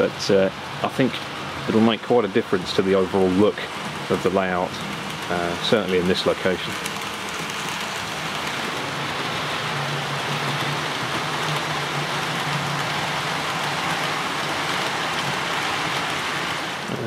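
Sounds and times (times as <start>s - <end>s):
model train wheels rolling on rails: 0.0s - 17.0s.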